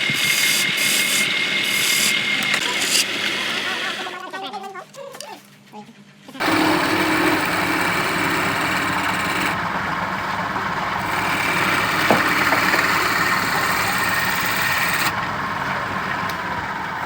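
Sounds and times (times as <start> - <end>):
power tool motor whirring: 0.0 - 4.2, 6.4 - 16.4.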